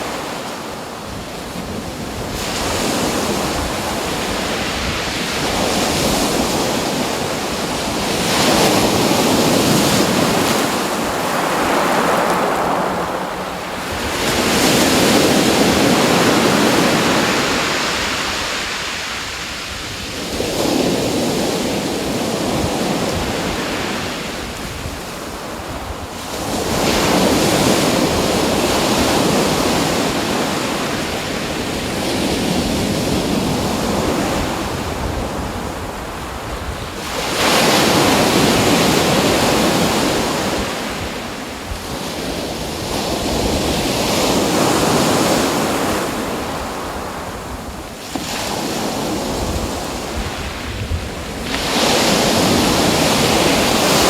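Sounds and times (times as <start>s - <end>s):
ocean waves rushing in: 0.0s - 54.0s
wind rumble on microphone: 0.0s - 54.0s.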